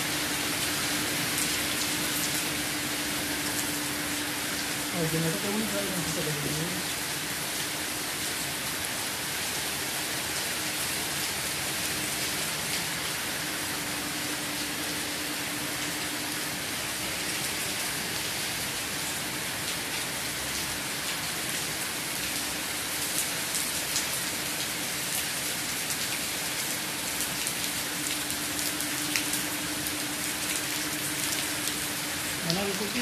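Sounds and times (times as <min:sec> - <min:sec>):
rain drops ticking close by: 0:00.0 - 0:33.0
steady rain hiss: 0:00.0 - 0:33.0.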